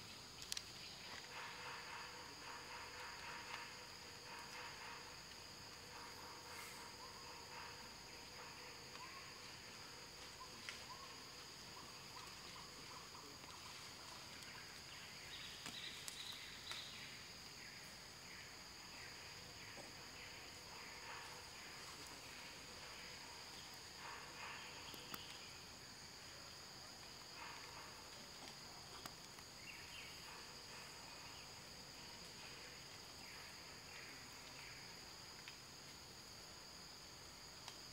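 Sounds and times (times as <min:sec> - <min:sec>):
faint chirps: 0:00.0 - 0:35.1.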